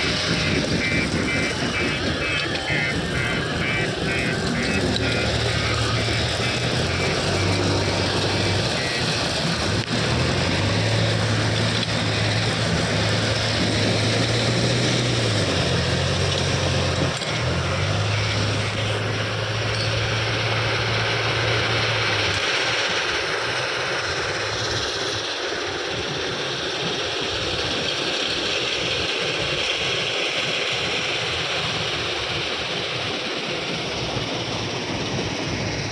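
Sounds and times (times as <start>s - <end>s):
heavy machinery engine running: 0.0s - 35.9s.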